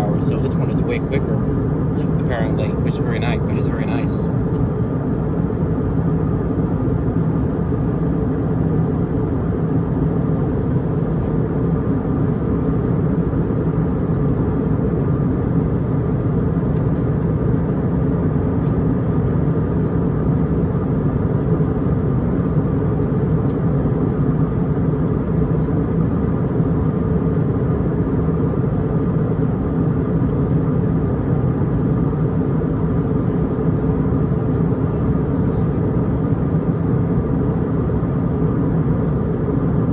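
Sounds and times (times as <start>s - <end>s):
airplane cabin engine drone: 0.0s - 39.9s
constant hum tones: 0.0s - 39.9s.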